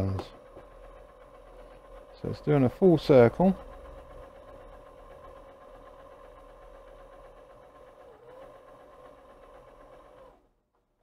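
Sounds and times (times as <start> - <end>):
disc changer mechanical whir: 0.0 - 10.6.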